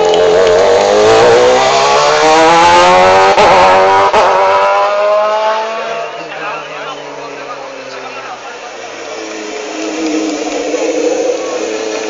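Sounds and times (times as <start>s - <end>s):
race car engine accelerating: 0.1s - 6.2s, 7.1s - 12.0s.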